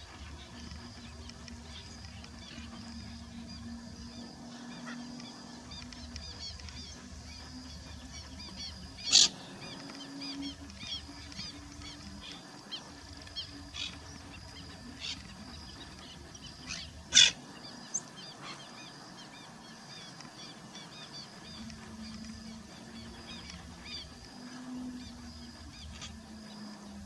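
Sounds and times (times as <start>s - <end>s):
parakeets calling: 0.0s - 27.0s.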